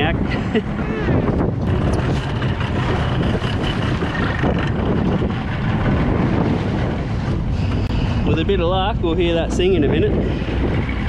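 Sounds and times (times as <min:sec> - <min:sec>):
boat through choppy sea: 0:00.0 - 0:11.0
outboard motor running: 0:00.0 - 0:11.0
wind buffeting microphone: 0:00.0 - 0:11.0.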